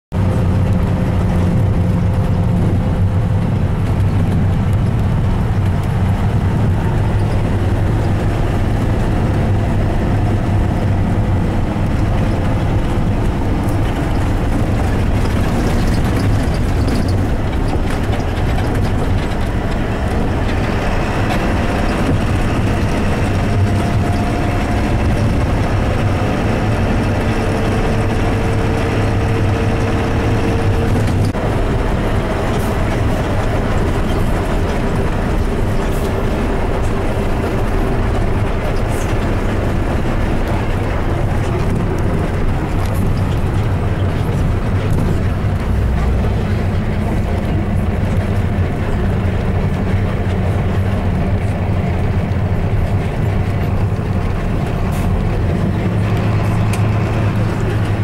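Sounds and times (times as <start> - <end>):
bus engine: 0.0 - 58.0
road noise: 0.0 - 58.0.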